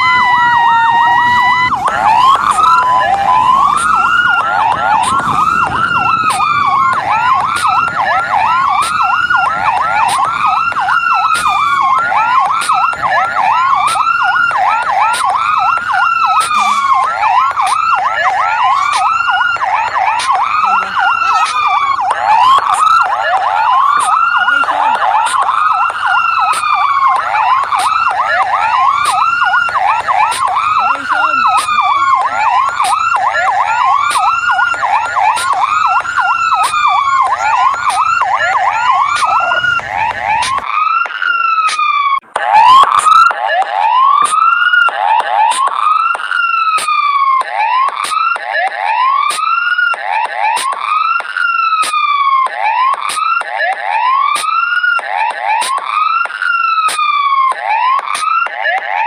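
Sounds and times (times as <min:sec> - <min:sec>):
wailing fire truck siren: 0:00.0 - 0:59.0
yelping siren: 0:00.0 - 0:59.0.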